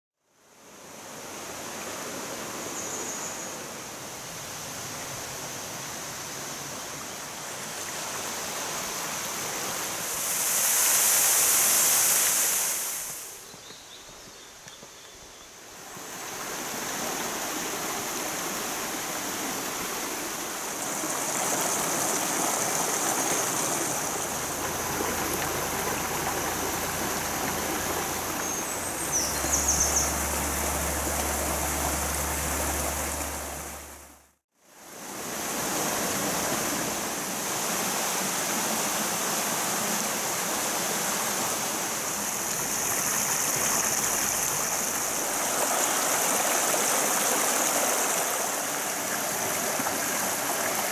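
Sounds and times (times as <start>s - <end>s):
stream rushing over rocks: 0.6s - 50.9s.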